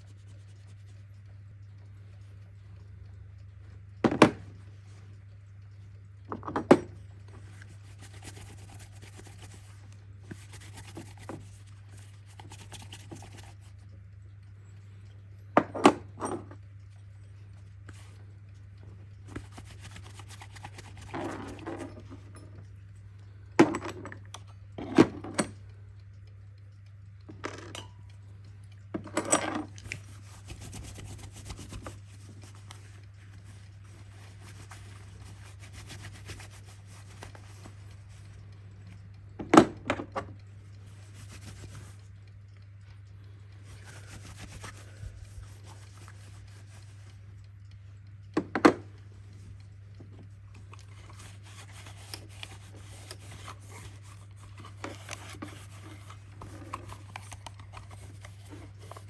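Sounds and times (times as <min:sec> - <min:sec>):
clock mechanism clicks and knocks: 0:00.0 - 0:59.0
low electrical hum: 0:00.0 - 0:59.0.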